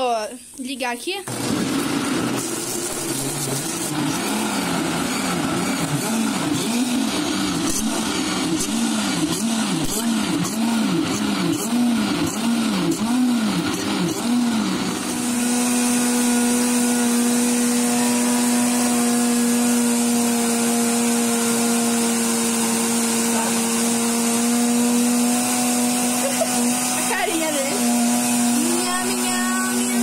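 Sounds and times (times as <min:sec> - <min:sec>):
electric blender running: 0:01.2 - 0:30.0.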